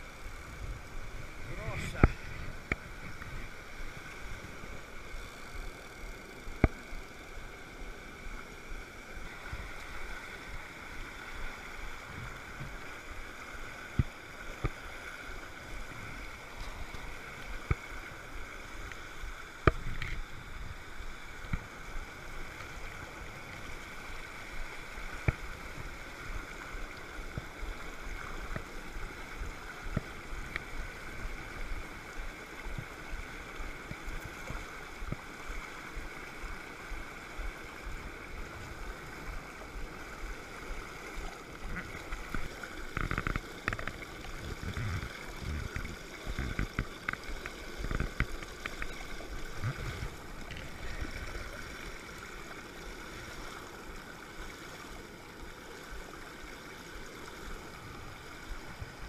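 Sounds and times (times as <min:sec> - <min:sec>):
stream rushing over boulders: 0:00.0 - 0:59.0.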